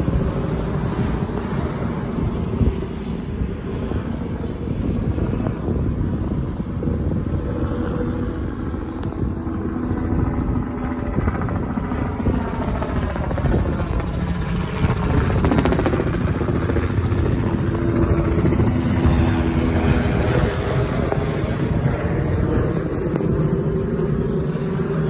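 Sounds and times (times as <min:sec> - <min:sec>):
helicopter rotor chop: 0:00.0 - 0:25.0.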